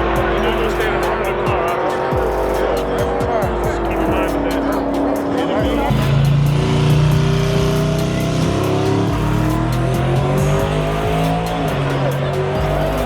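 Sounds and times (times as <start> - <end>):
background music with bass notes: 0.0 - 13.0
car engine running: 0.0 - 13.0.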